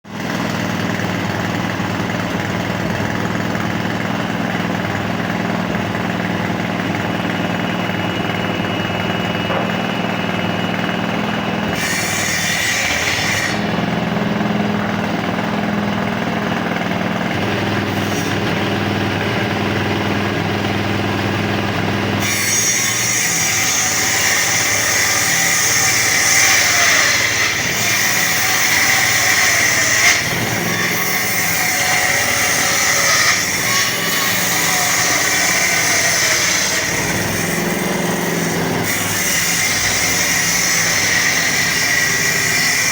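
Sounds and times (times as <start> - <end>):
woodworking machine humming: 0.1 - 42.9
hissing cutting noise: 0.2 - 42.9.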